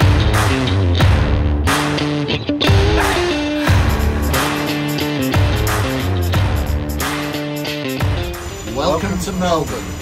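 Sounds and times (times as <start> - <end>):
rock music with steady beat: 0.0 - 9.1.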